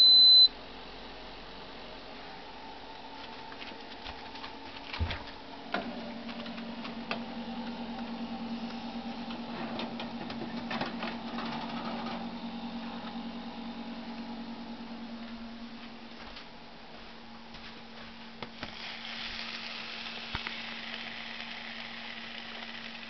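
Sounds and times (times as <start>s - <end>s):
oven humming: 0.0s - 23.0s.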